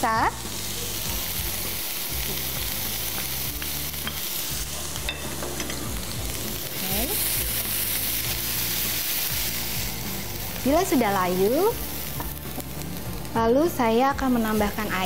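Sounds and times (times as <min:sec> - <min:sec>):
onion sizzling in butter: 0:00.0 - 0:15.0.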